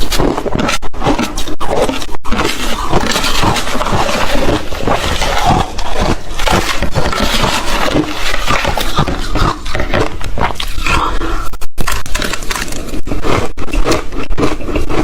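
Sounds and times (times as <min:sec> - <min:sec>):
ice being bitten and chewed: 0:00.0 - 0:15.0.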